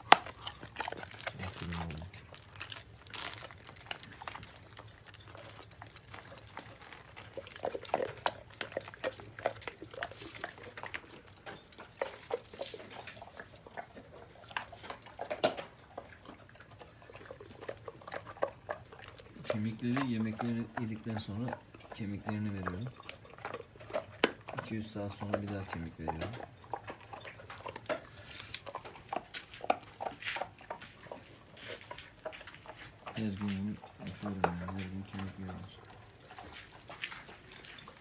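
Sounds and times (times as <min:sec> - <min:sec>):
dog crunching a bone: 0:00.0 - 0:38.0.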